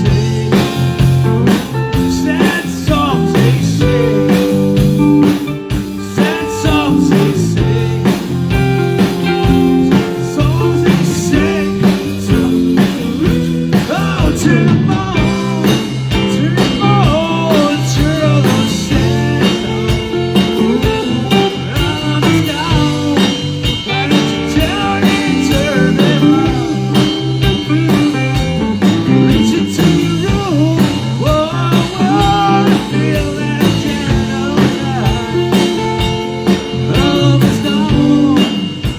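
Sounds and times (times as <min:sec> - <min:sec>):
bass line: 0:00.0 - 0:38.9
blues-rock guitar lines: 0:00.0 - 0:38.9
steady drum beat: 0:00.0 - 0:38.9.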